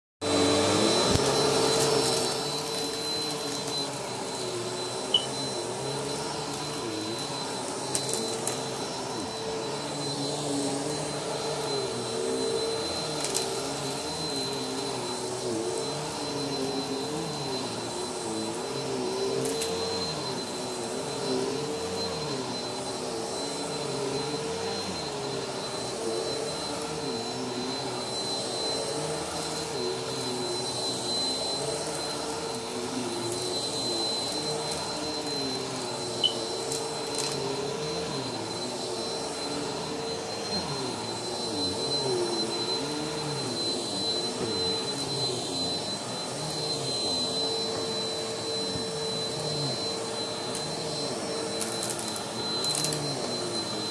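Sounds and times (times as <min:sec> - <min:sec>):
vacuum cleaner running on carpet: 0:00.2 - 0:53.9.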